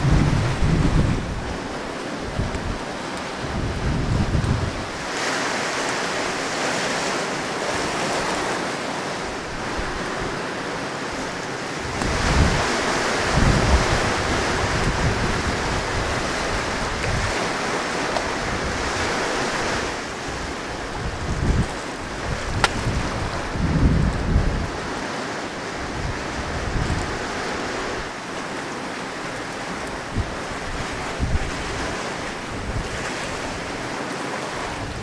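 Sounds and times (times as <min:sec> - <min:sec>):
surf washing on shore: 0:00.0 - 0:35.0
wind: 0:00.0 - 0:35.0
wind buffeting microphone: 0:00.0 - 0:35.0.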